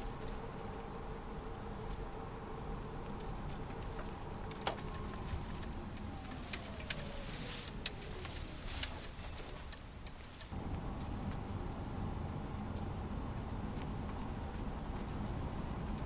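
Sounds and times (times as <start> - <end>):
road rumble inside car: 0.0 - 16.0.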